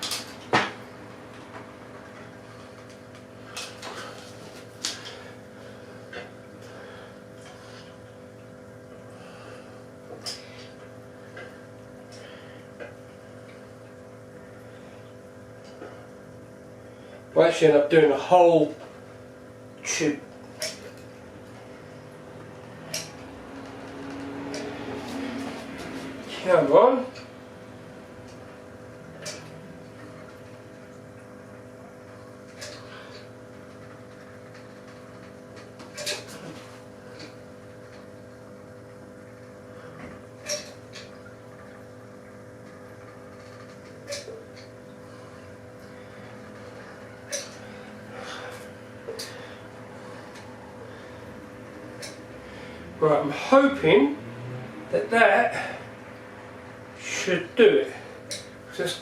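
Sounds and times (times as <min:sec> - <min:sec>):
steady electrical hum: 0:00.0 - 0:59.0.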